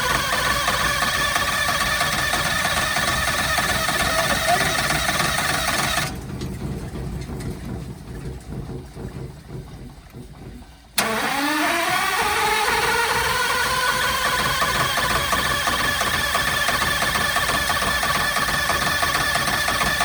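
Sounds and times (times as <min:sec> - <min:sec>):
wood chipper engine revving: 0:00.0 - 0:07.7, 0:11.0 - 0:20.0.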